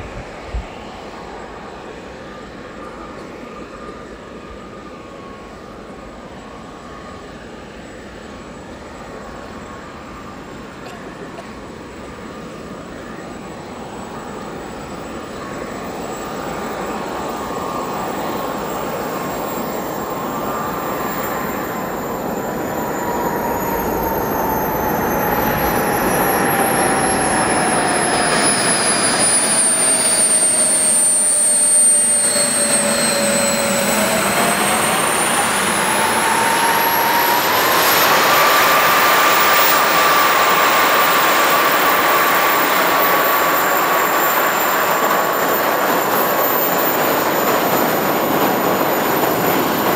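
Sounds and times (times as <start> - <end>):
model jet turbines whining: 0.0 - 49.9.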